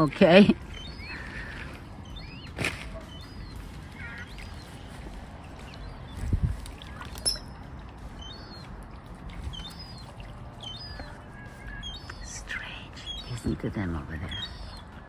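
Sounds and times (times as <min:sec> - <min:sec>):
outdoor background rush: 0:00.0 - 0:15.0
wild birds chirping: 0:00.0 - 0:15.0.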